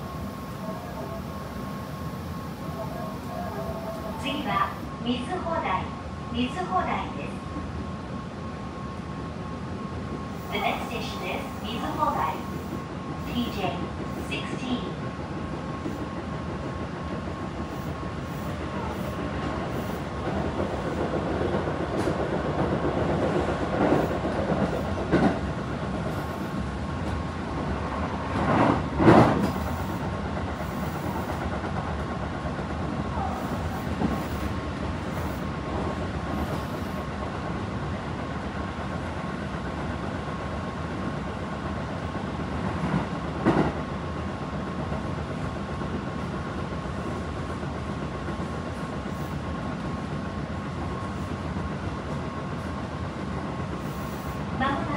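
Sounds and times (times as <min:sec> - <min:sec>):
train wheels rumbling on rail: 0:00.0 - 0:54.9
train clatters: 0:10.0 - 0:54.9.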